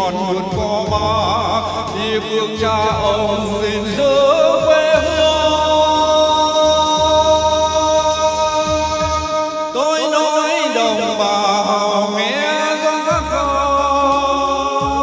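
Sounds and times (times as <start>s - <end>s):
backing track: 0.0s - 15.0s
man singing into a microphone: 0.0s - 15.0s.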